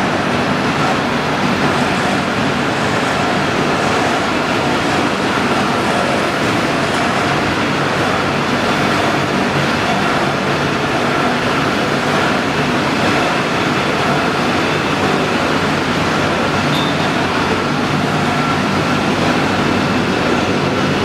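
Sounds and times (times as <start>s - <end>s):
faint hum and whine: 0.0s - 21.0s.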